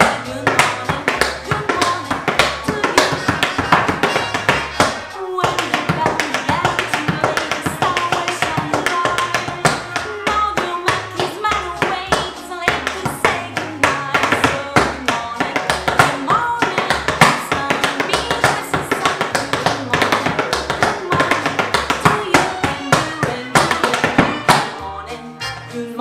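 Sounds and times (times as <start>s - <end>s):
tap shoes on wooden floor: 0.0s - 24.8s
acoustic song with singing: 0.0s - 26.0s.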